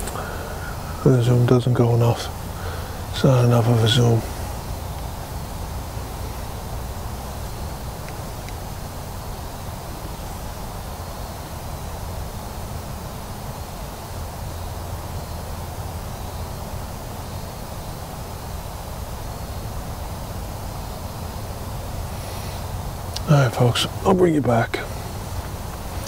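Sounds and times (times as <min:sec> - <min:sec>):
faint hiss: 0:00.0 - 0:26.0.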